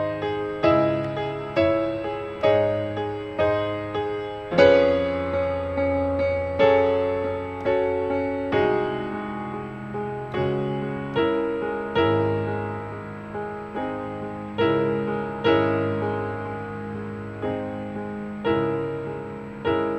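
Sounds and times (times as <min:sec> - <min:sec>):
slow gentle piano music: 0:00.0 - 0:19.9.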